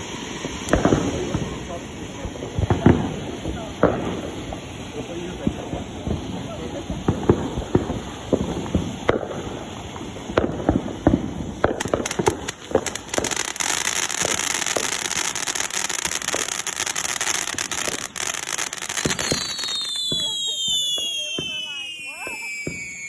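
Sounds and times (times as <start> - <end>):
fireworks bangs and pops: 0.0 - 23.0
fireworks crackling hiss: 0.0 - 23.0.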